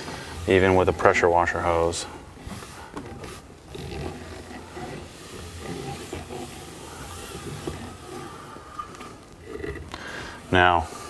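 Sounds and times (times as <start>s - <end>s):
hose winding onto reel: 0.0s - 11.0s.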